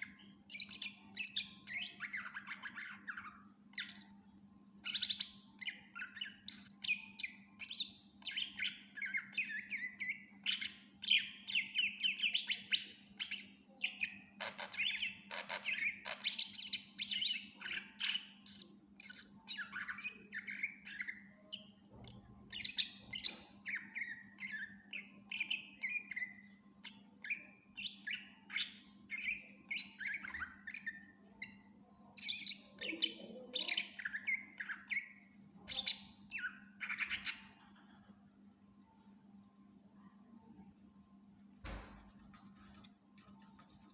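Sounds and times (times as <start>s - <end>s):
bird singing varied song: 0.0s - 43.9s.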